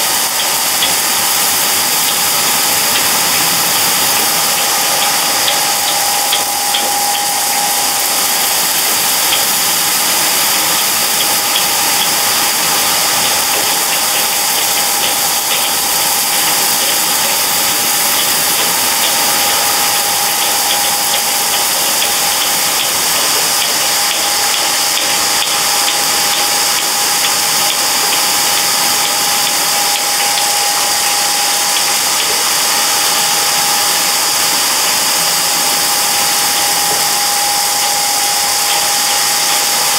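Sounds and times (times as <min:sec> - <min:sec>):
motor and gear whine: 0:00.0 - 0:39.9.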